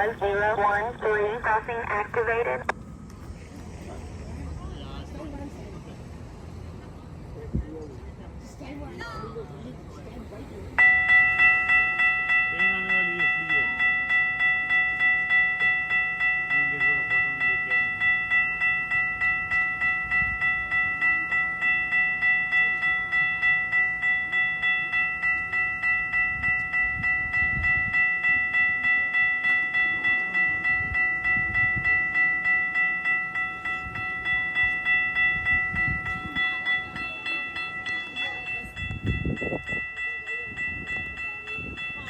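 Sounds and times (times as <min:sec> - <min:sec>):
level crossing bell ringing: 0:00.0 - 0:02.6, 0:10.8 - 0:42.0
low rumble from rail line: 0:00.0 - 0:42.0.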